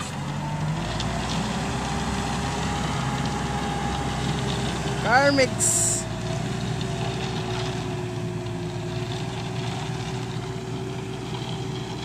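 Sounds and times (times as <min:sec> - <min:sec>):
mixer engine humming and whining: 0:00.0 - 0:12.0.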